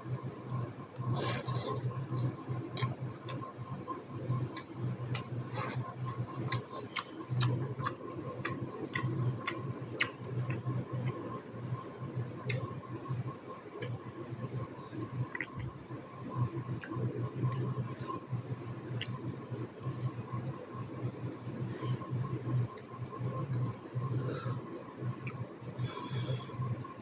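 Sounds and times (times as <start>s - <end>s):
steady low hum: 0.0s - 27.0s
close chewing with wet clicks: 0.1s - 25.8s, 26.5s - 27.0s.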